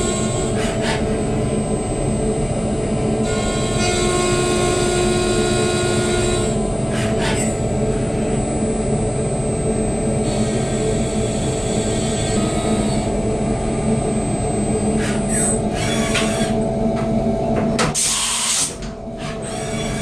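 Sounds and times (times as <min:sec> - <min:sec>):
milling machine high whine: 0:00.0 - 0:20.0.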